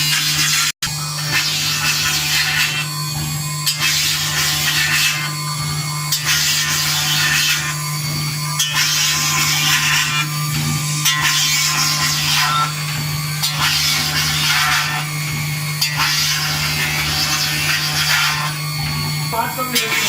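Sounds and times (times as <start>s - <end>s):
cutter scraping metal: 0.0s - 20.0s
spindle hum: 0.0s - 20.0s.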